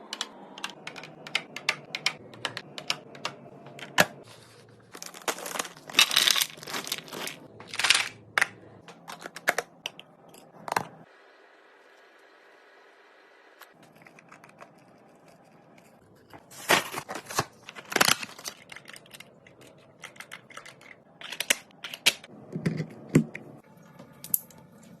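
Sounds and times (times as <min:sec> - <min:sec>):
kitchen items clicking and tapping: 0:00.1 - 0:04.2, 0:05.0 - 0:11.0, 0:13.8 - 0:23.6.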